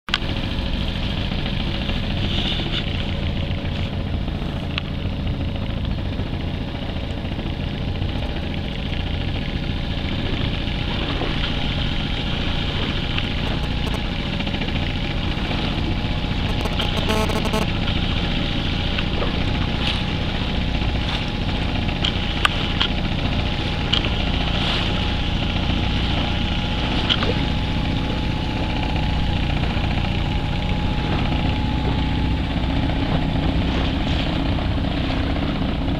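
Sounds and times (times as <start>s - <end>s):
boat engine running: 0.1s - 35.9s.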